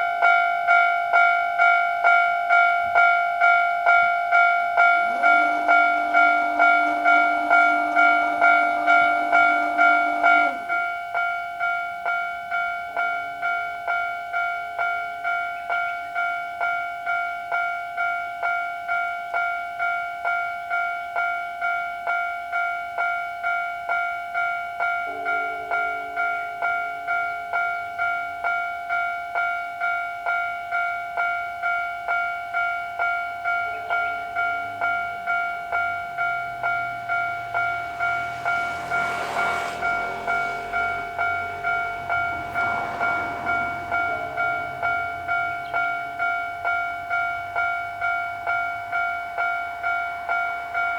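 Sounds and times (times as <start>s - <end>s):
train passing: 0.0s - 18.0s, 22.4s - 50.9s
level crossing warning bell ringing: 0.0s - 50.9s.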